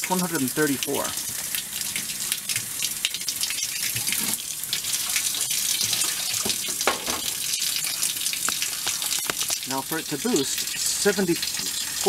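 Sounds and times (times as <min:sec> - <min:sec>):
faucet water splashing into sink: 0:00.0 - 0:12.0.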